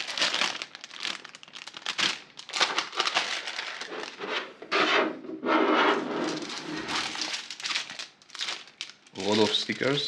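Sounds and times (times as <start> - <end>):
packaging rustling: 0.0 - 4.6, 6.2 - 10.0.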